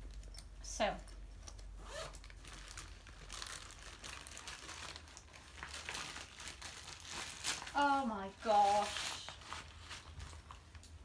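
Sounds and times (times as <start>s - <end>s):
packaging rustling and crinkling: 2.0s - 11.0s.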